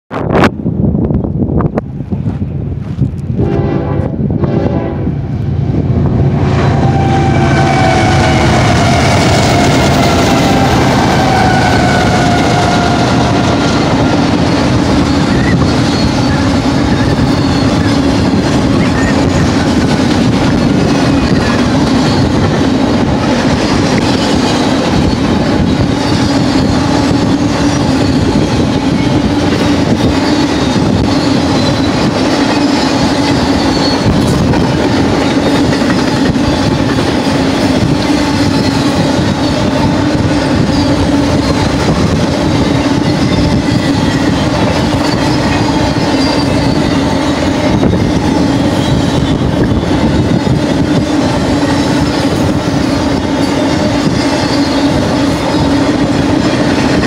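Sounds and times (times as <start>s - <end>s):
diesel locomotive engines passing: 0.1s - 57.0s
freight cars rolling on rails: 6.3s - 57.0s.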